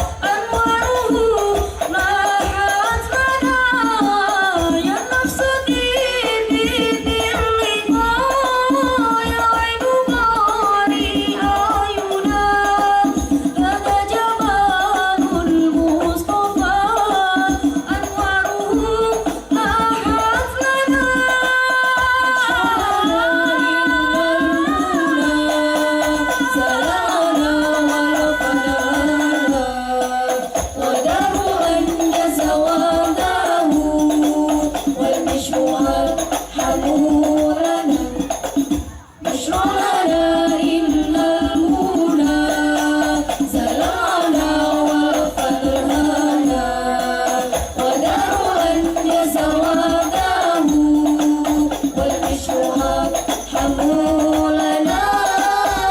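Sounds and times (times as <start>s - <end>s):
frame drums rhythm: 0.0s - 55.9s.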